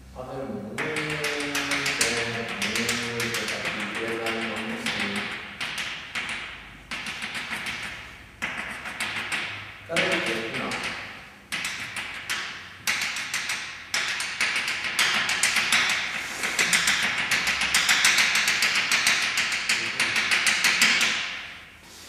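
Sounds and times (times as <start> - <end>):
chalk tapping on blackboard: 0.8 - 21.7.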